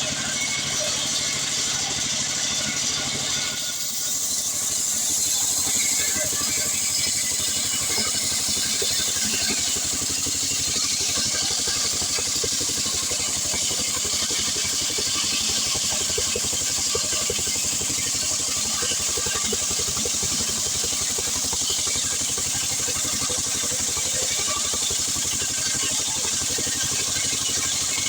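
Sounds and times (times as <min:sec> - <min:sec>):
chainsaw running: 0:00.0 - 0:28.0.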